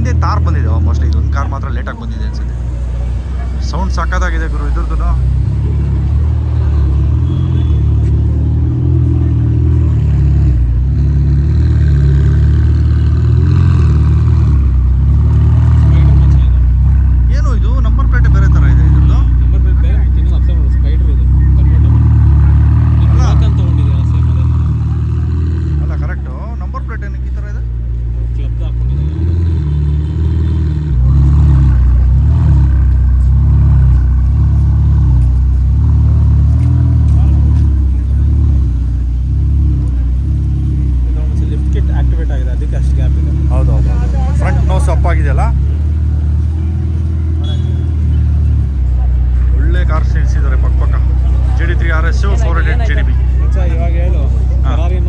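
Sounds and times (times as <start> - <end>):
deep car engine idling: 0.0 - 55.0.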